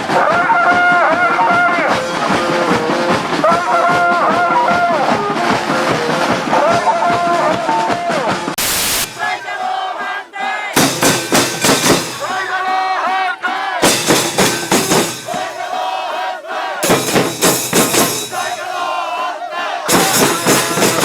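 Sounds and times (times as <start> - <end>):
crowd shouting and chanting: 0.0 - 21.0
drums beating: 0.0 - 21.0.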